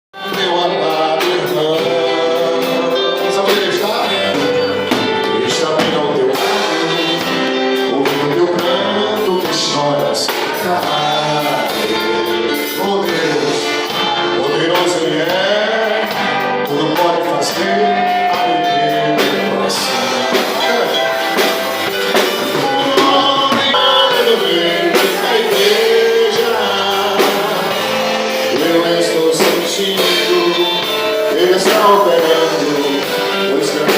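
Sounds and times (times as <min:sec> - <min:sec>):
band playing gospel song: 0:00.1 - 0:33.9
man singing lead: 0:00.1 - 0:33.9.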